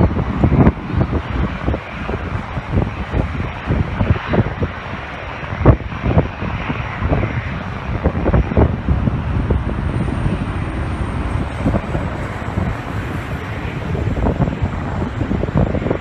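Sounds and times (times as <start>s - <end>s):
jet engines rumbling: 0.0s - 16.0s
wind buffeting microphone: 0.0s - 16.0s.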